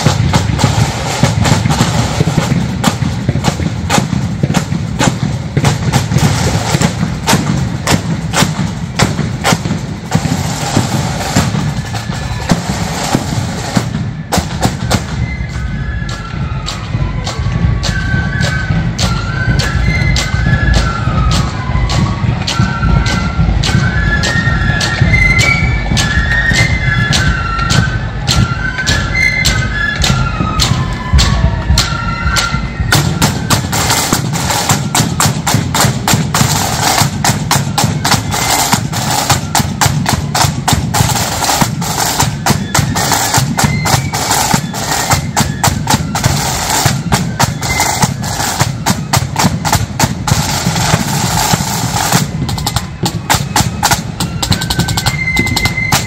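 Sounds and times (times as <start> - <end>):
fast snare drumming: 0.0 - 56.0
flutes playing high melody: 0.0 - 56.0.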